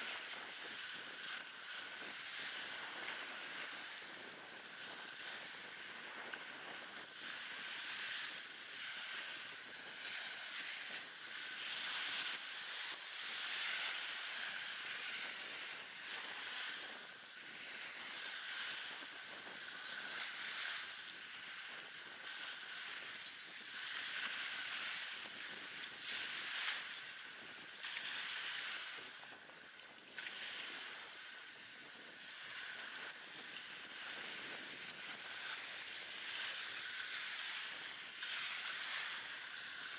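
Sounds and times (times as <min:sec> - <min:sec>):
waves washing up shingle beach: 0:00.0 - 0:29.2, 0:31.9 - 0:39.9
wind buffeting microphone: 0:00.0 - 0:39.9.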